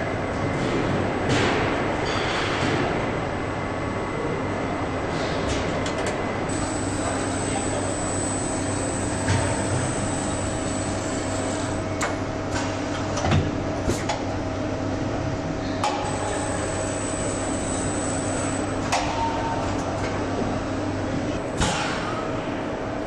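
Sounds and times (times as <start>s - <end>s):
machinery hum and hiss: 0.0s - 23.0s.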